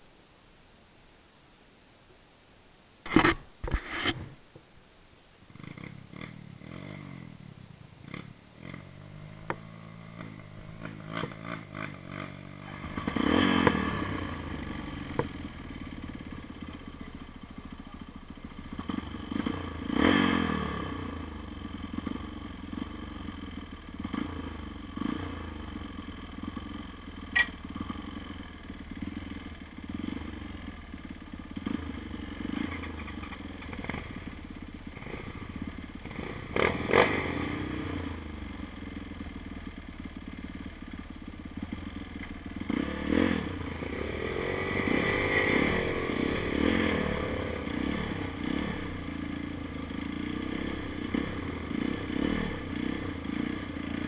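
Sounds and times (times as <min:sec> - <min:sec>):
motorcycle engine revving: 0:05.5 - 0:54.0.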